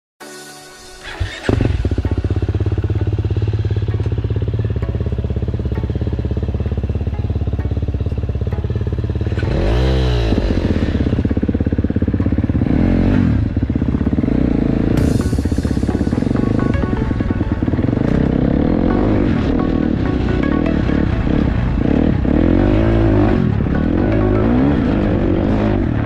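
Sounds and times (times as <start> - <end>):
motorbike engine revving: 1.0 - 26.0.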